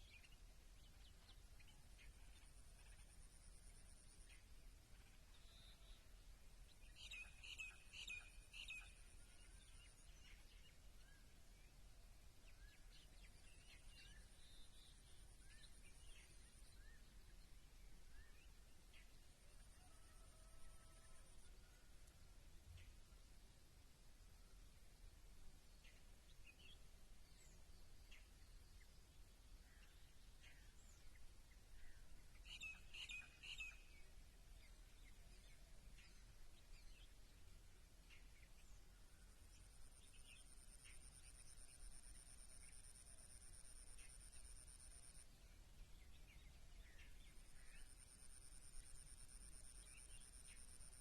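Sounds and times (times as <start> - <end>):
faint birds chirping: 0.0 - 51.0.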